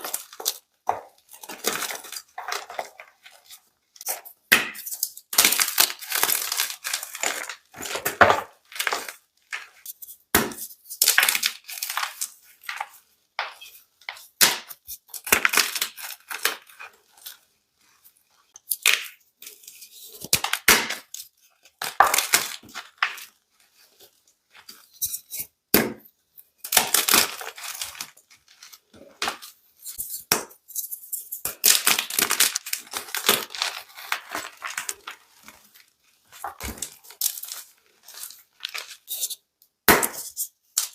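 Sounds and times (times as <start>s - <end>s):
chalk blocks crunching: 0.0s - 26.0s, 26.6s - 40.9s.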